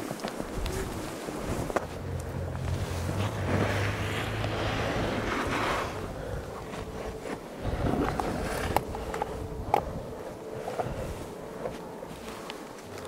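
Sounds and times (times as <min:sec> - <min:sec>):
low steady hum: 0:00.4 - 0:13.0
wind gusting over microphone: 0:00.4 - 0:13.0.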